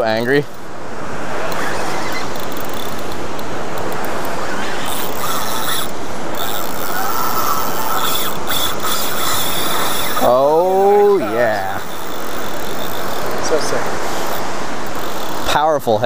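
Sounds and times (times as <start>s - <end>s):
fishing reel spinning: 1.4s - 3.2s, 3.8s - 15.6s.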